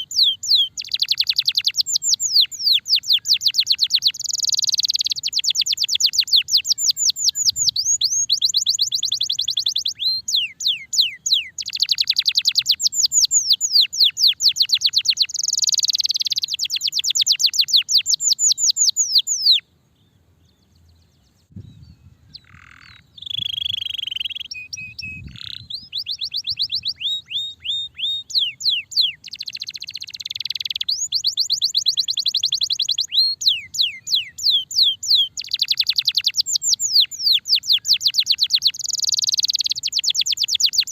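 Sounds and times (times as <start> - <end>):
canary singing fast trills: 0.0 - 40.9.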